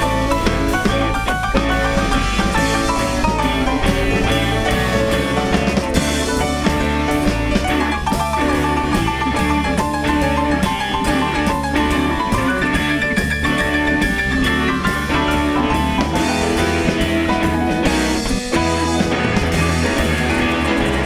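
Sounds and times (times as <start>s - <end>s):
live band playing instrumental: 0.0s - 21.0s.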